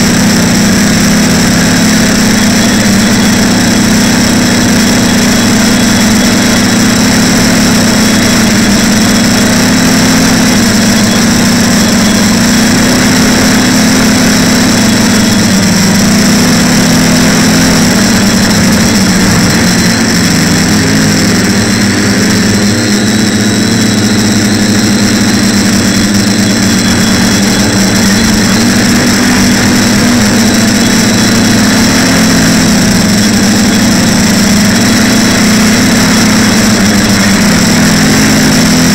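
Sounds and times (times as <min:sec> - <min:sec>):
quadcopter motors buzzing: 0:00.0 - 0:38.9
steady high whine: 0:00.0 - 0:38.9.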